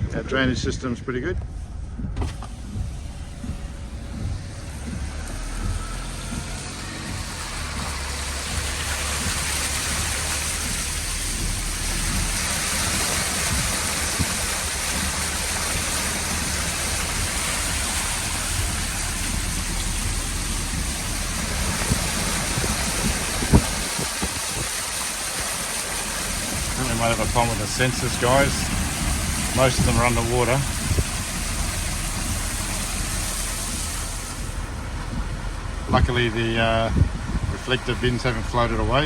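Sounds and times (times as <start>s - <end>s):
car engine running low: 0.0s - 39.0s
heavy rain: 1.6s - 39.0s
running water: 2.3s - 39.0s.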